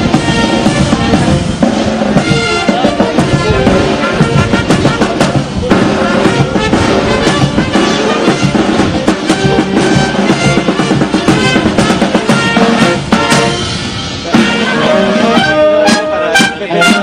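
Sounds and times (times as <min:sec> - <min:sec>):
instrumental music with drum beat: 0:00.0 - 0:17.0.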